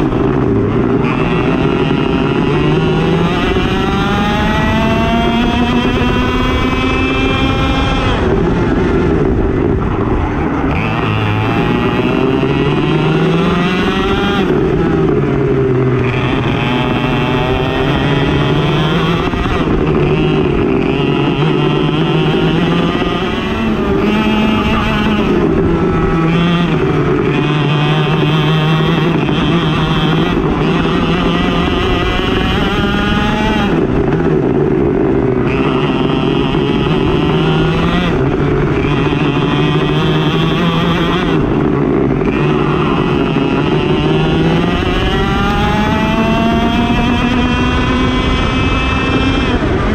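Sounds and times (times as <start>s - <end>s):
kart engine at full throttle: 0.0s - 49.9s.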